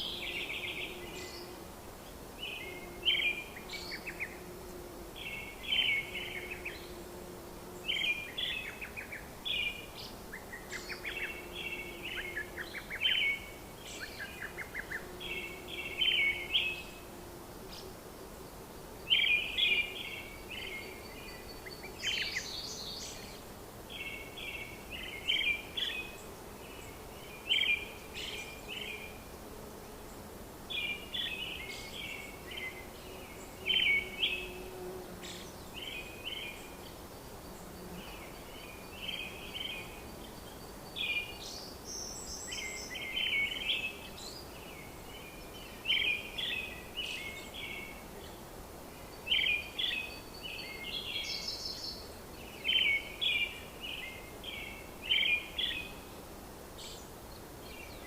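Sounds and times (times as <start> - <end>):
small birds chirping: 0.0 - 7.0, 7.7 - 17.1, 18.5 - 29.3, 29.9 - 56.2.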